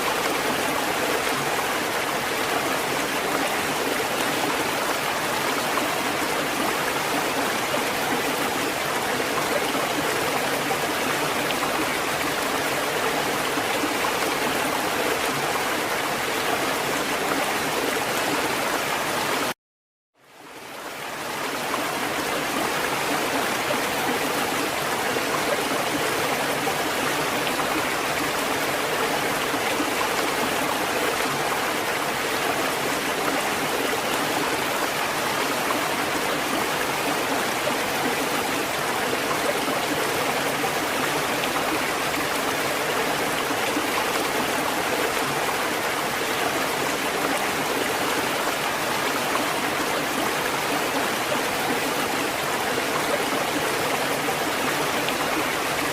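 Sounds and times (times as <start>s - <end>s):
running water: 0.0s - 19.6s, 20.3s - 55.9s.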